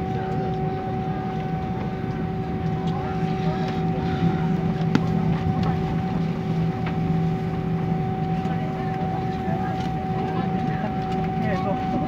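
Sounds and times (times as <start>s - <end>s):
aircraft cabin engine drone: 0.0s - 12.0s.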